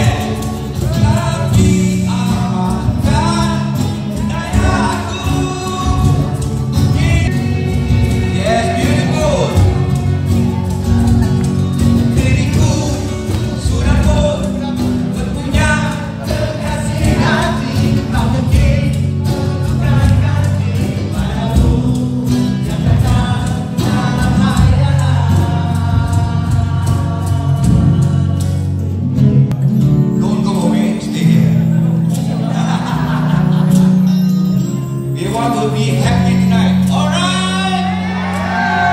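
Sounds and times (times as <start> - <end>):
lead vocal singing: 0.0 - 29.2, 35.2 - 38.9
band playing a song: 0.0 - 38.9.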